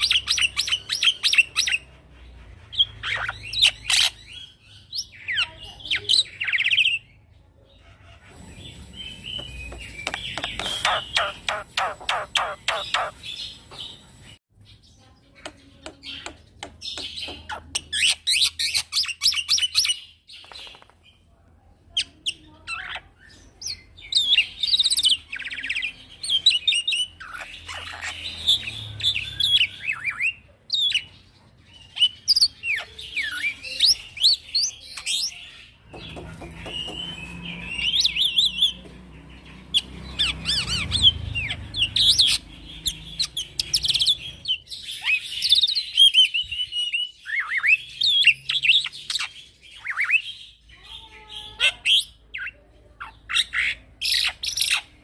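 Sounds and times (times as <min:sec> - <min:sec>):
myna bird singing: 0:00.0 - 0:55.0.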